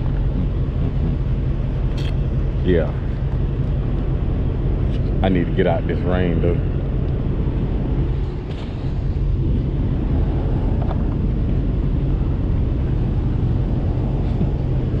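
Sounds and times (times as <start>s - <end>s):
road and tyre rumble: 0.0s - 15.0s
wind over microphone: 0.0s - 15.0s.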